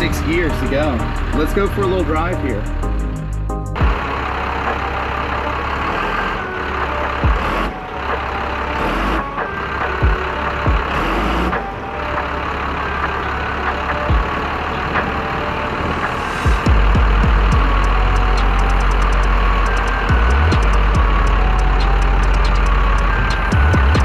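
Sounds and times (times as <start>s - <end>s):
diesel bus engine running: 0.0s - 24.0s.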